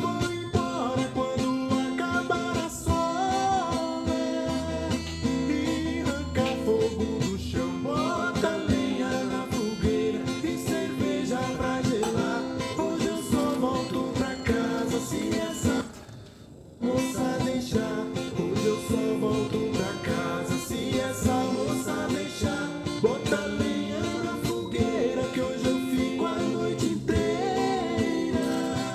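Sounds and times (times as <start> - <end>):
person singing: 0.0 - 16.0, 16.8 - 28.9
guitar: 0.0 - 28.9.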